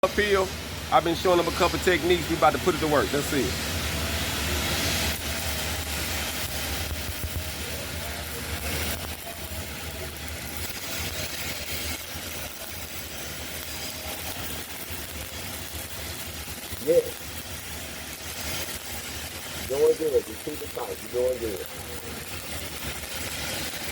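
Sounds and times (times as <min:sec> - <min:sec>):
welding arc hissing: 0:00.0 - 0:23.9.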